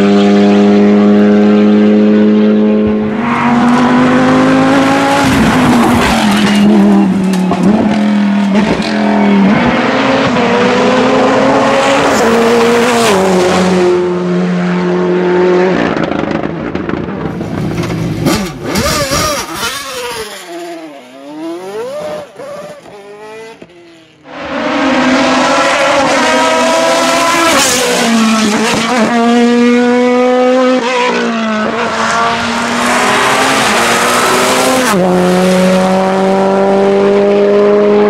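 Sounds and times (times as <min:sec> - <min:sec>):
race car engine at full throttle: 0:00.0 - 0:38.0.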